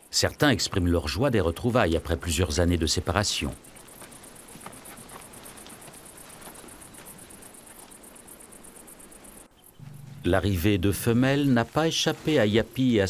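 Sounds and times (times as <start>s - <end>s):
faint background hiss: 0.0s - 13.0s
insects chirping: 0.0s - 13.0s.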